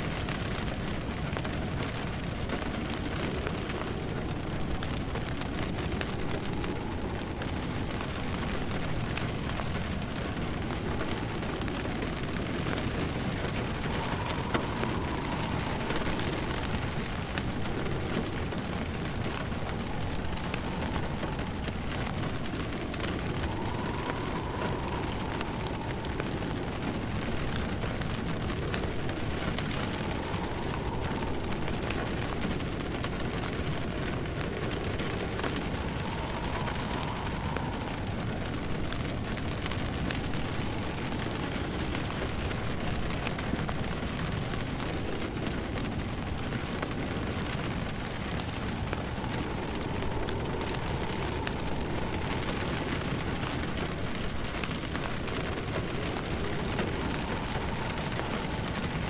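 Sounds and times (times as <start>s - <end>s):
faint whistling wind: 0.0s - 59.0s
steady rain: 0.0s - 59.0s
wood fire crackling: 0.0s - 59.0s.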